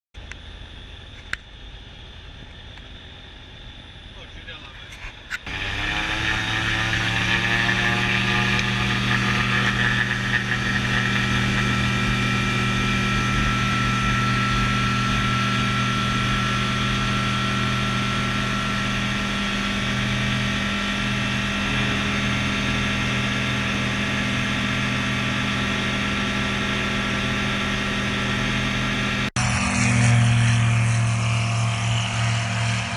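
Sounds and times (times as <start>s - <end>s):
aircraft engine and propeller: 0.2s - 32.9s.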